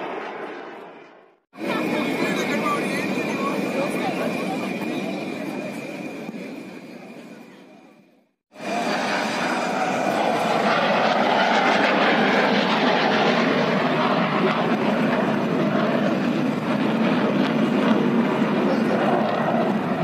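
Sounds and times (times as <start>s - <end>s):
fighter jet flying past: 0.0s - 7.4s, 8.5s - 20.0s.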